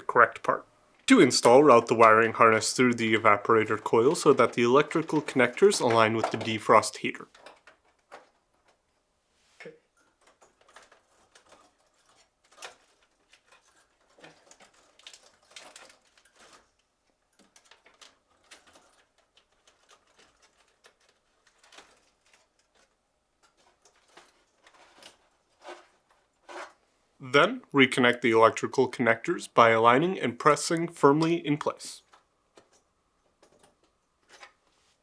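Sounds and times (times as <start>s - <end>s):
faint clicks and rustles: 0.9s - 27.2s, 30.7s - 35.0s.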